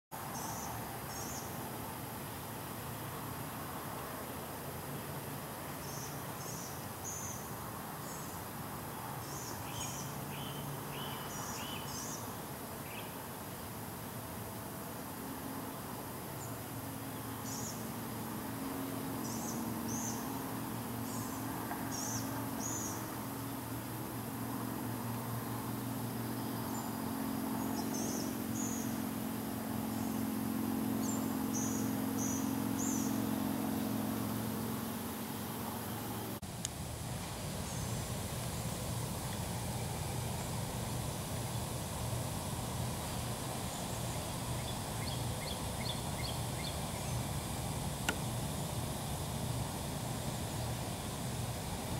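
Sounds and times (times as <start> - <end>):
outdoor background hiss: 0.1 - 51.9
steady low hum: 0.2 - 51.9.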